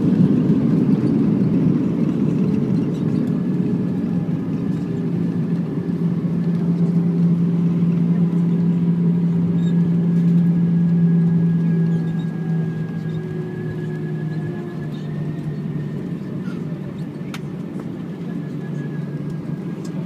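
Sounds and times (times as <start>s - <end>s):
aircraft cabin engine drone: 0.0s - 20.0s.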